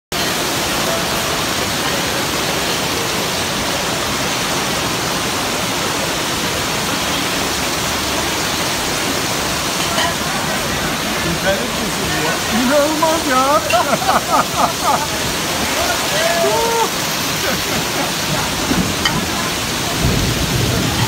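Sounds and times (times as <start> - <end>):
torrential rain on pavement: 0.1 - 21.0
water streaming off awning: 0.1 - 21.0.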